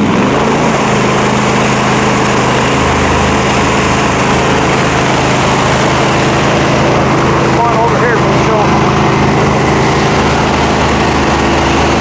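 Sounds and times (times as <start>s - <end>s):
pressure washer engine running: 0.0s - 12.0s.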